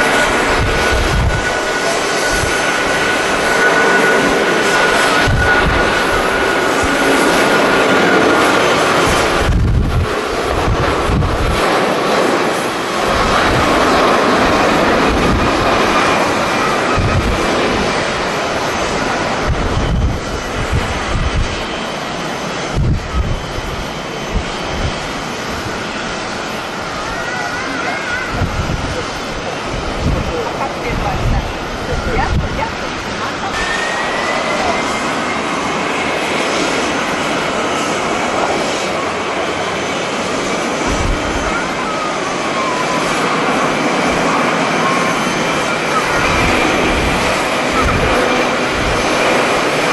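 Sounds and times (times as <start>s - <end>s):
jet engines passing by: 0.0s - 49.9s
wind buffeting microphone: 0.0s - 49.9s.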